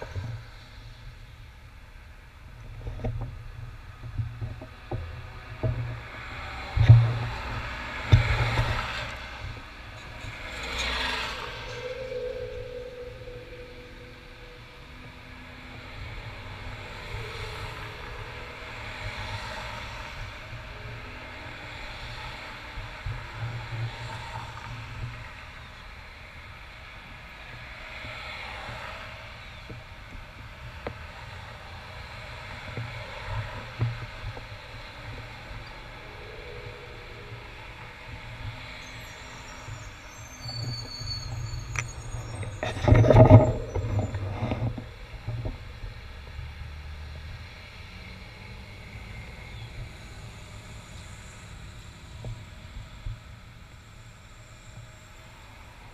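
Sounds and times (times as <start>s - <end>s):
low traffic rumble: 0.0s - 55.9s
vehicles driving past: 0.0s - 55.9s.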